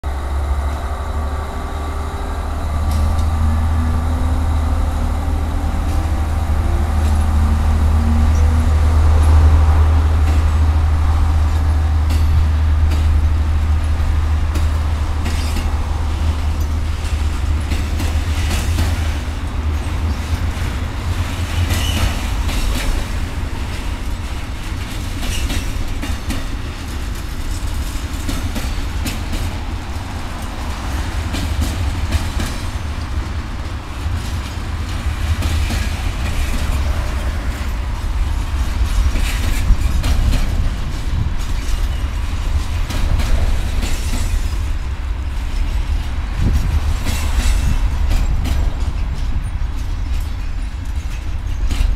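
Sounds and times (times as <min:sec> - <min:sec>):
diesel locomotive engine: 0:00.0 - 0:51.9
train wheels clattering on rails: 0:00.0 - 0:51.9.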